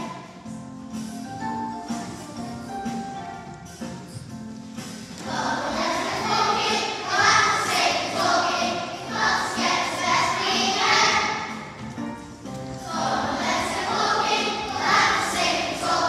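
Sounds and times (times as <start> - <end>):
children's choir singing: 0.0 - 3.2, 4.9 - 12.0, 12.7 - 16.0.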